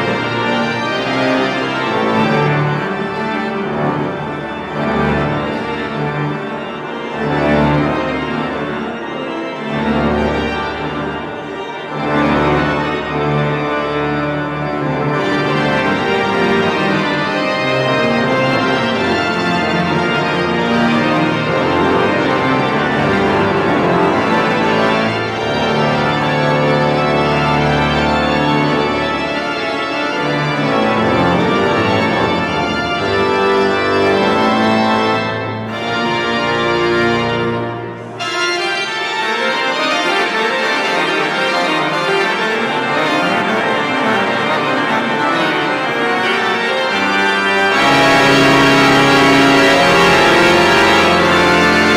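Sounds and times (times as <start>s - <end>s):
pipe organ playing chords: 0.0s - 51.9s.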